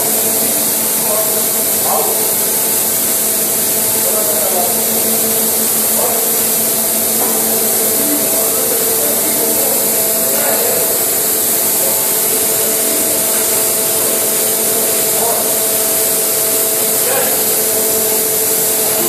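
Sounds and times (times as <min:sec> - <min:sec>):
loud machinery hiss: 0:00.0 - 0:19.0
steady humming tones: 0:00.0 - 0:19.0.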